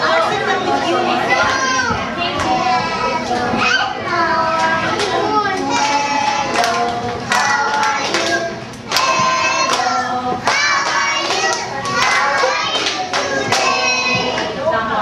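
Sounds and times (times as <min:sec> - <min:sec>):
children singing: 0:00.0 - 0:14.9.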